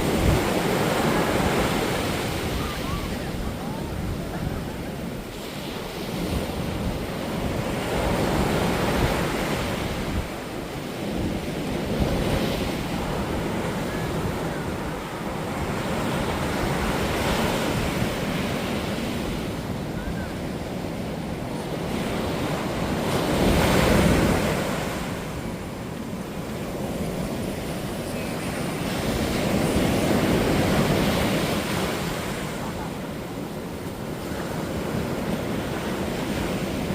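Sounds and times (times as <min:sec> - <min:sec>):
surf breaking on a beach: 0:00.0 - 0:36.9.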